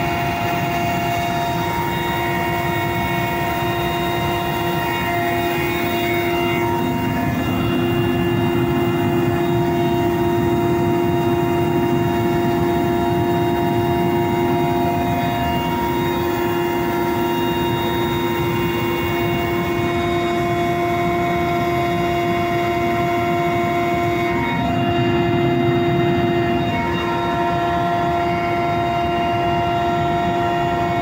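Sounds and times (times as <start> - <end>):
helicopter engine and rotor noise: 0.0 - 31.0
helicopter turbine whine: 0.0 - 31.0.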